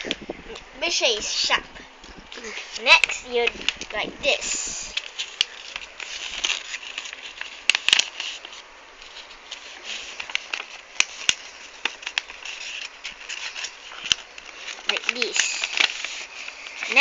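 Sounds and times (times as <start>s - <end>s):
paper crackles: 0.0s - 17.0s
paper rustling and crinkling: 0.0s - 17.0s.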